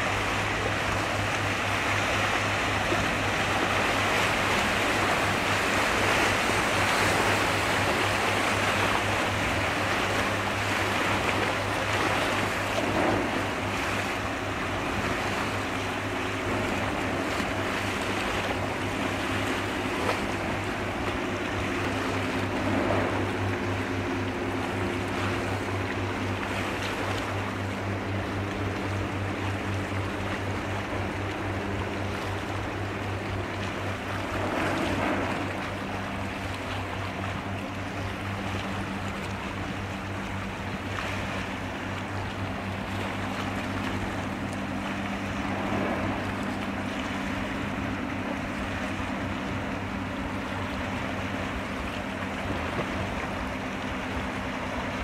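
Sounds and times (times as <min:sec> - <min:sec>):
rushing water: 0:00.0 - 0:55.0
ship machinery droning: 0:00.0 - 0:55.0
wind: 0:00.0 - 0:55.0.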